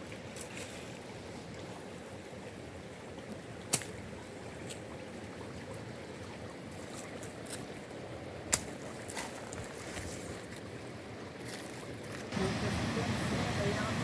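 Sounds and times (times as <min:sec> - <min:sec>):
flowing water: 0:00.0 - 0:14.0.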